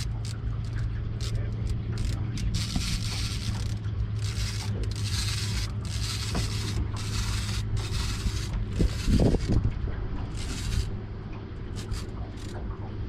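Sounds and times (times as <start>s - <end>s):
fishing reel whirring: 0.0s - 9.7s, 10.3s - 11.0s, 11.7s - 12.6s
steady low hum: 0.0s - 13.0s.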